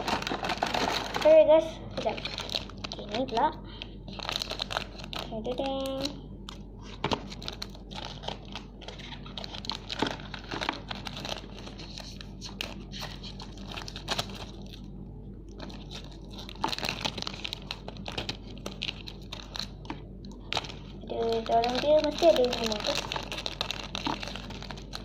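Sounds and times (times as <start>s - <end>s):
plastic packets crinkling: 0.0s - 14.9s, 15.5s - 25.0s.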